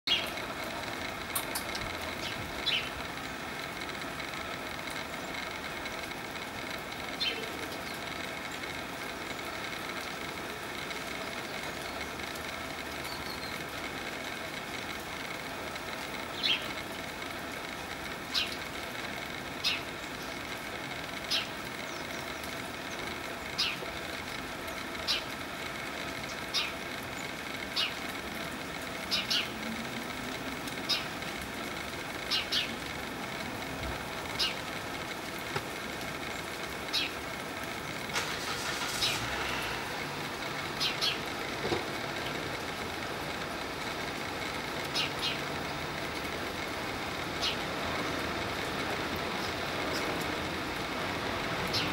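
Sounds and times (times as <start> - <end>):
distant traffic: 0.1 - 51.9.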